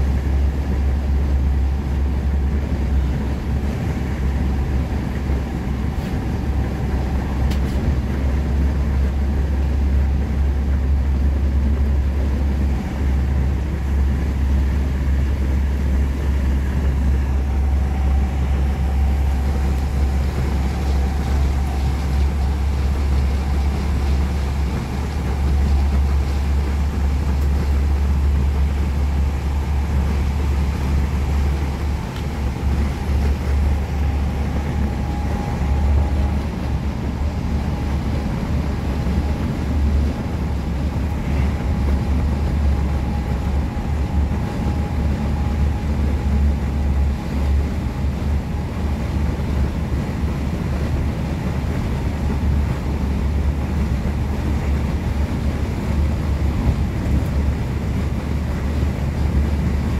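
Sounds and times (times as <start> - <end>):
train coach deep rumble: 0.0 - 59.9.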